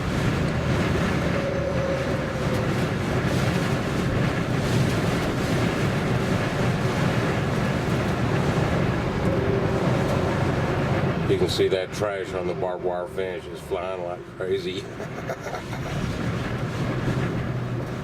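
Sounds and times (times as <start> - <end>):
gusty wind around vehicle: 0.0 - 18.0.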